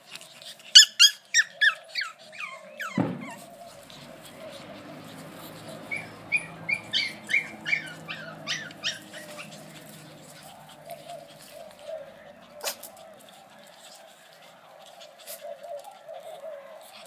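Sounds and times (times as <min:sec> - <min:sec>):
puppies yelping: 0:00.3 - 0:17.0.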